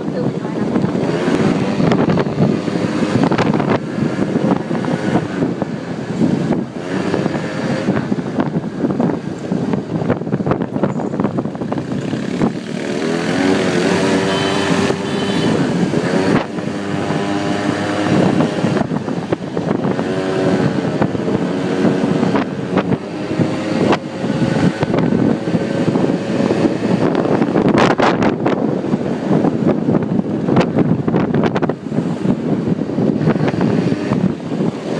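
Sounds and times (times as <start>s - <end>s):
quad bike engine revving: 0.0s - 34.9s
wind rushing over microphone: 0.0s - 34.9s.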